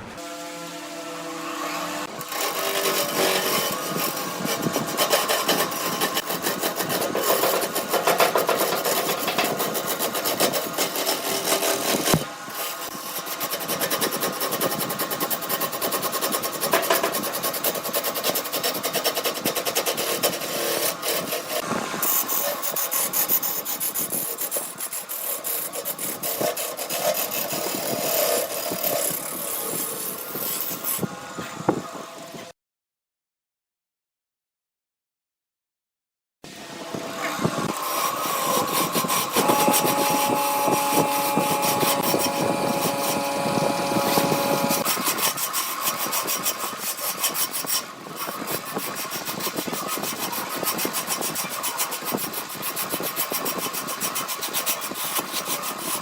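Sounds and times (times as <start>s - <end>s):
lathe tool scraping wood: 0.0s - 31.1s, 37.1s - 56.0s.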